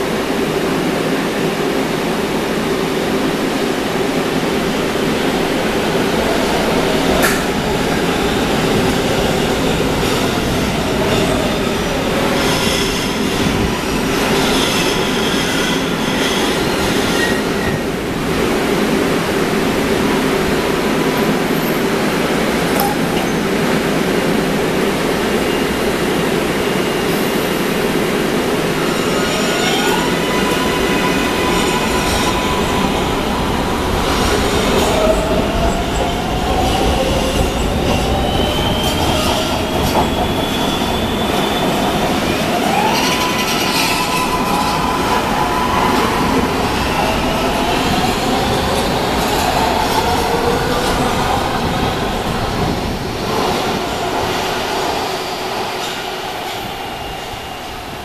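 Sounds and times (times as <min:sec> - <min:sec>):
train wheels rumbling on rails: 0:04.2 - 0:58.0.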